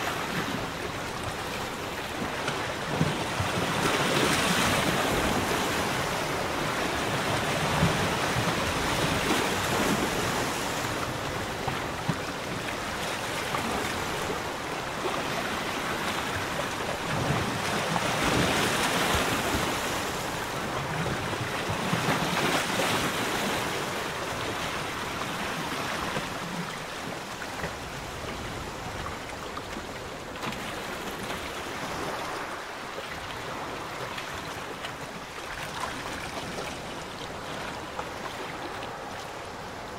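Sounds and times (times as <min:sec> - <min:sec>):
small waves lapping: 0:00.0 - 0:39.9.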